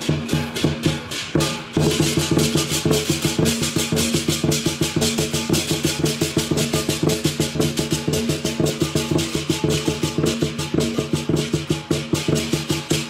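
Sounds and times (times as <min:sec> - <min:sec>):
big drum beating fast: 0:00.0 - 0:13.0
crashing cymbals: 0:00.0 - 0:13.0.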